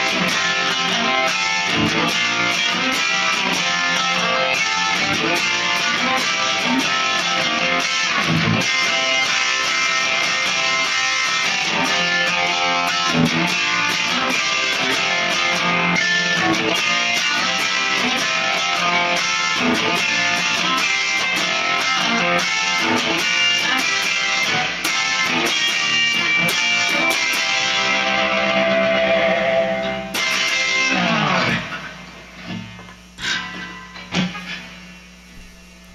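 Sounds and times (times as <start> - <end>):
electric guitar strummed chords: 0.0 - 35.9
steady hum: 0.0 - 35.9.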